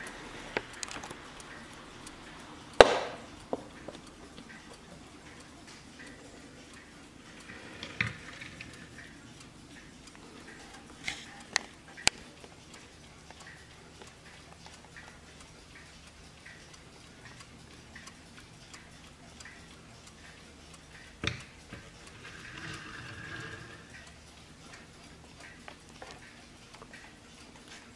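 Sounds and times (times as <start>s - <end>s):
clock ticking: 0.0s - 27.9s.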